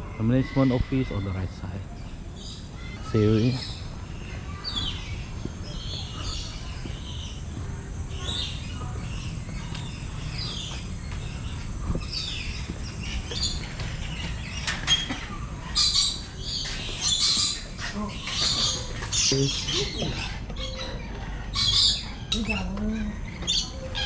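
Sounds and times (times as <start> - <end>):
birds chirping and calling: 0.0 - 24.0.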